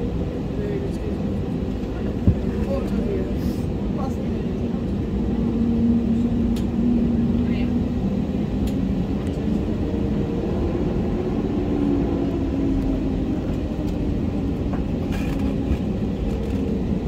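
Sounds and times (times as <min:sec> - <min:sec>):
aircraft engines and wheels rumbling: 0:00.0 - 0:17.0.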